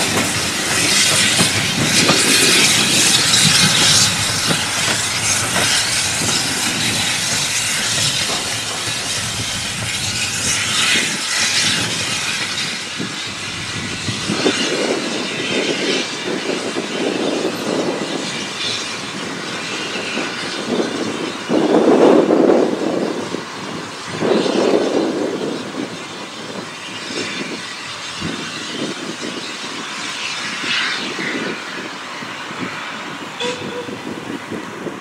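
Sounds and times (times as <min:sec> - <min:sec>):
hiss of steam: 0:00.0 - 0:35.0
steam locomotive exhaust chuffs: 0:00.0 - 0:35.0
train running on track: 0:00.0 - 0:35.0.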